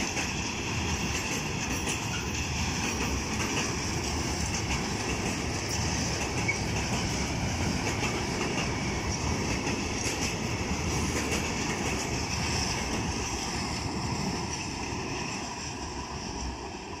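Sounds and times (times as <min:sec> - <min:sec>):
rail clicks: 0:00.0 - 0:17.0
train wheels rumbling on rails: 0:00.0 - 0:17.0.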